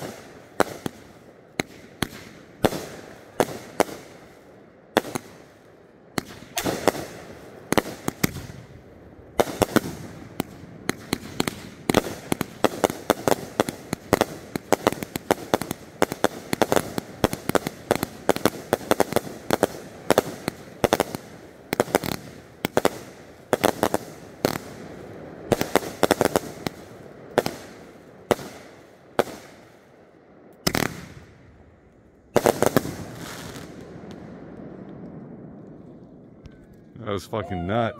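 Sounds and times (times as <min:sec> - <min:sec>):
fireworks bangs and crackles: 0:00.0 - 0:37.9.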